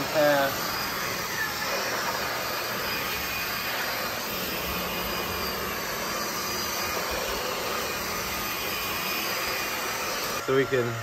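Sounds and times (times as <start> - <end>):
stick vacuum running on rug: 0.0 - 11.0.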